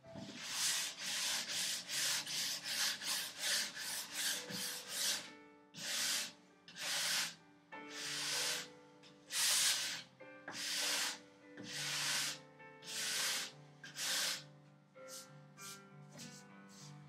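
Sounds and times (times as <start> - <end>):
sandpaper rasping on wood: 0.2 - 8.7, 9.3 - 14.4, 15.1 - 17.0.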